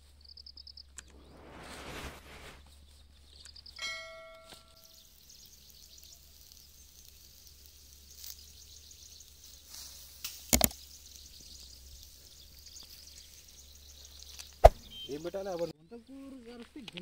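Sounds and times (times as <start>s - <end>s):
kebabs sizzling over charcoal: 0.0s - 15.7s.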